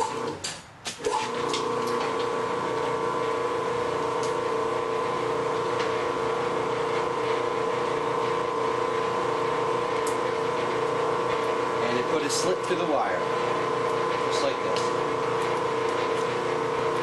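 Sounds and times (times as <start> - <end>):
electric motor humming: 1.1 - 17.0.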